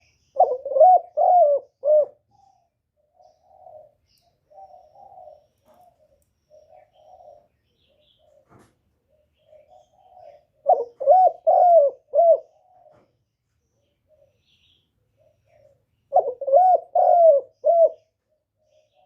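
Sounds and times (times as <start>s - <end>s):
dove cooing: 0.0s - 13.2s, 13.8s - 19.0s.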